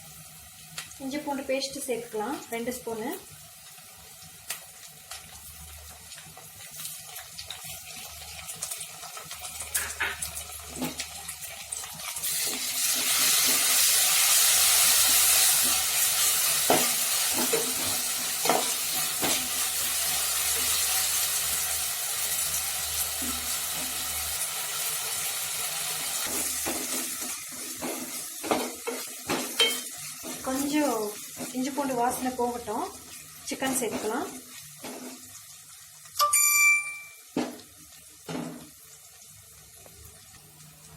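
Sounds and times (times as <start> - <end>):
onions sizzling in oil: 0.0 - 36.2, 37.0 - 40.9.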